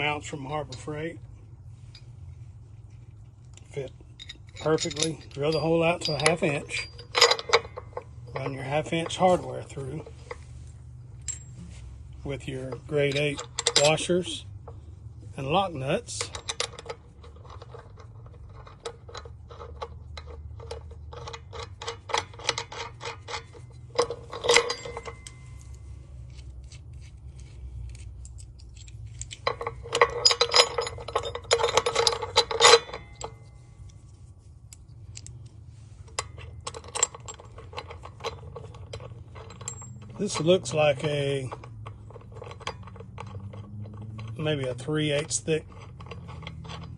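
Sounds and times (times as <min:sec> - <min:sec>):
metal hardware clinks: 0:03.0 - 0:46.9.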